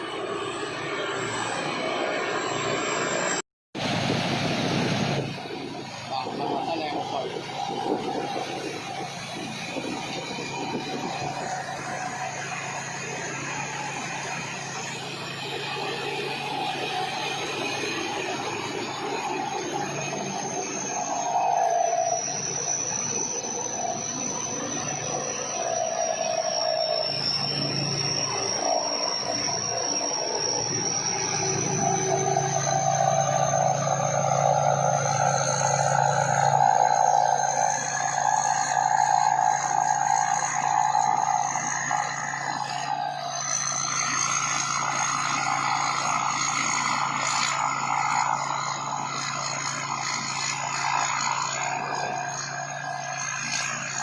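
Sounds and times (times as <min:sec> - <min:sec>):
combine harvester engine drone: 0:00.0 - 0:54.0
high machinery whine: 0:00.0 - 0:54.0.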